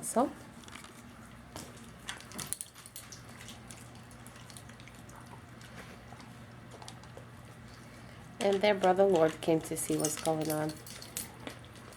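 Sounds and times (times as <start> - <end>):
dog eating from a bowl: 1.6 - 11.9.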